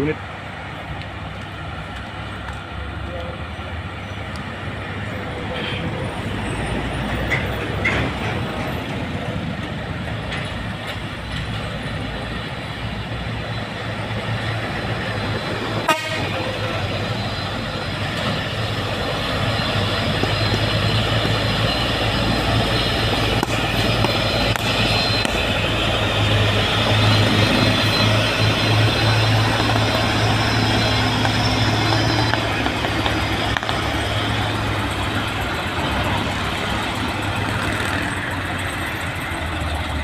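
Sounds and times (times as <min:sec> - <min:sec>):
diesel truck engine labouring: 0:00.0 - 0:40.0.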